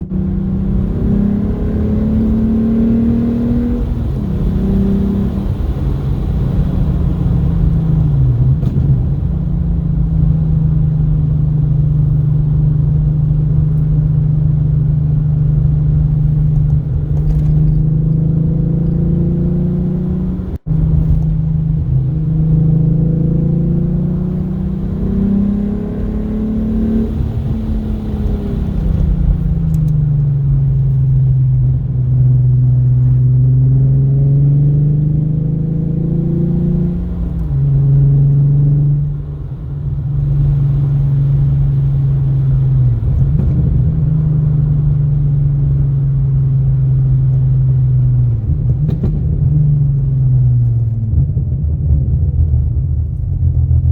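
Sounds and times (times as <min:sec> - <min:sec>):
loud car exhaust droning: 0:00.0 - 0:53.9.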